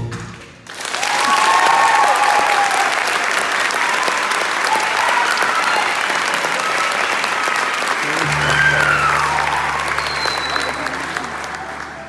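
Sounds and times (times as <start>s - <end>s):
audience applause: 0.5s - 12.0s
people whooping: 1.0s - 12.0s.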